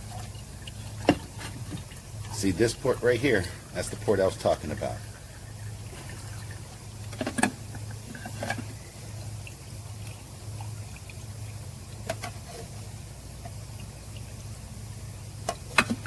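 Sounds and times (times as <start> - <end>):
fuel trickling and dripping: 0.0 - 16.0
steady low hum: 0.0 - 16.0.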